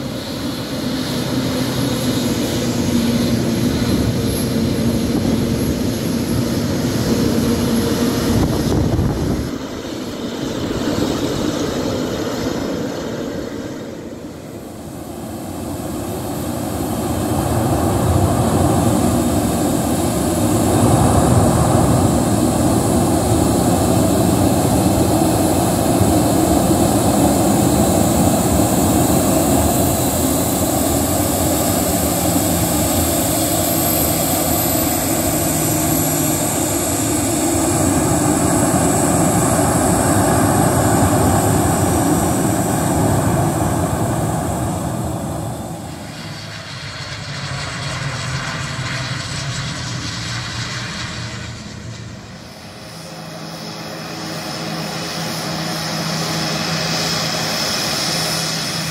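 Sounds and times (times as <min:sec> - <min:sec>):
distant turboprop engines: 0:00.0 - 0:58.9
jet engines whining: 0:00.0 - 0:58.9.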